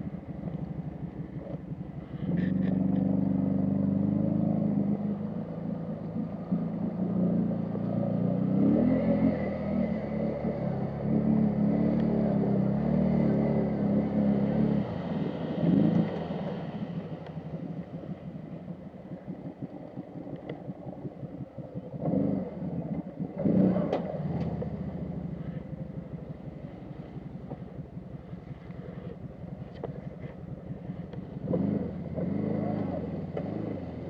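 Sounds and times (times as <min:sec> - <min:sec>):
atv engine revving and idling: 0:00.0 - 0:34.0.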